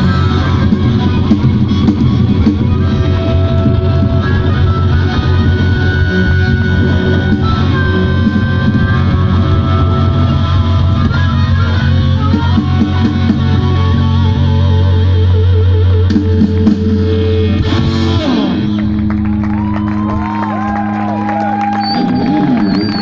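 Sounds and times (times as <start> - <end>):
harmonica: 0.0 - 18.7
bass guitar: 0.0 - 23.0
bending guitar notes: 0.0 - 23.0
drums: 0.0 - 23.0
electric guitars: 0.0 - 23.0.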